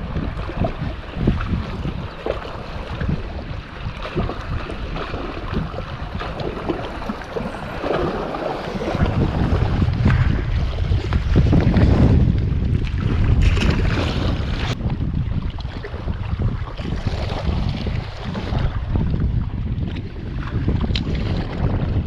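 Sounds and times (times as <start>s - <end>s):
moving water: 0.0s - 22.0s
wind buffeting microphone: 0.0s - 22.0s.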